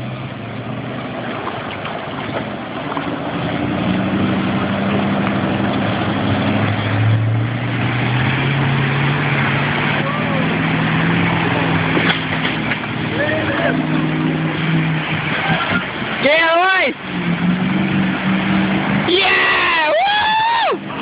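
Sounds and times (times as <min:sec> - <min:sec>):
vehicle engine pulling: 0:00.0 - 0:21.0
water splashing around wheels: 0:00.0 - 0:21.0.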